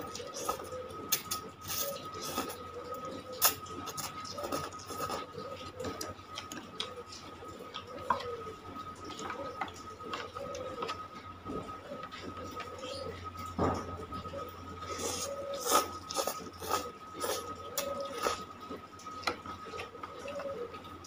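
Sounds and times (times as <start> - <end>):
chewing and slurping noodles: 0.0 - 13.2, 14.8 - 20.9
faint high hum: 0.0 - 21.0.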